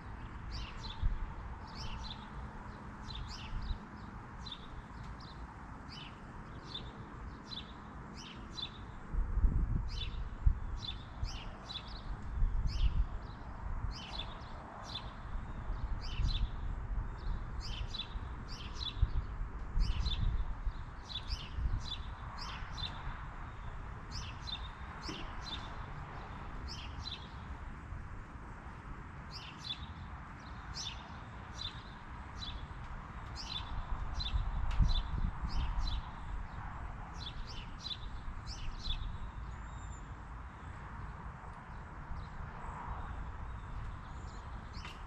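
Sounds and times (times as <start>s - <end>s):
small birds chirping: 0.1s - 9.0s, 9.9s - 27.5s, 29.3s - 45.0s.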